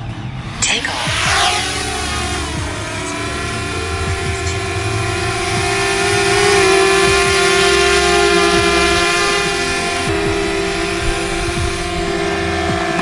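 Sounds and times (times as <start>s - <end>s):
drone propellers whining: 0.4s - 13.0s.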